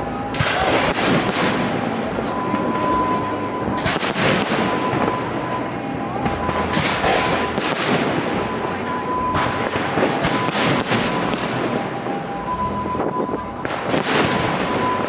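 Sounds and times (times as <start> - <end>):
continuous rumble and crackle: 0.0 - 15.0
fireworks bursting with loud bangs: 0.4 - 15.0.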